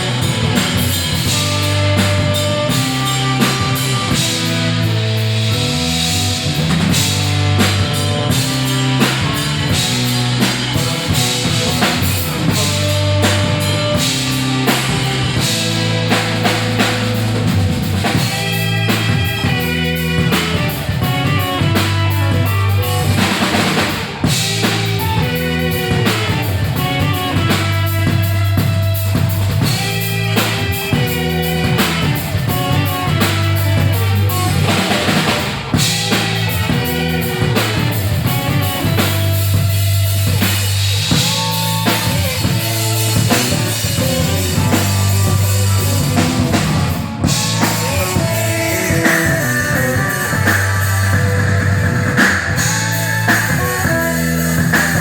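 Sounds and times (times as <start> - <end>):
blues-rock band playing: 0.0 - 55.0.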